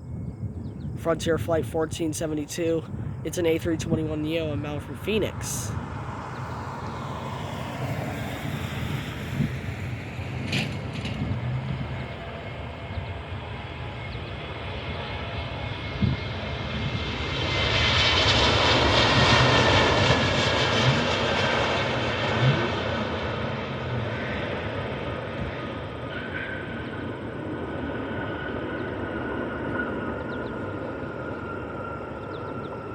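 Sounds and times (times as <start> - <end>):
jet airliner passing: 0.0 - 32.9.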